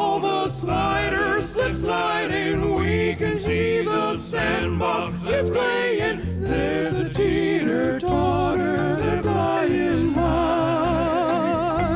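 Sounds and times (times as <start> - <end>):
upbeat children's song: 0.0 - 11.9.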